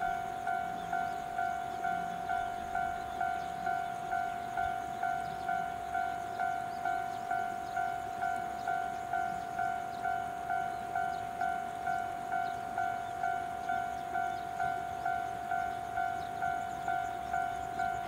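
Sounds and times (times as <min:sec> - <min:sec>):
level crossing warning bell: 0:00.0 - 0:18.0.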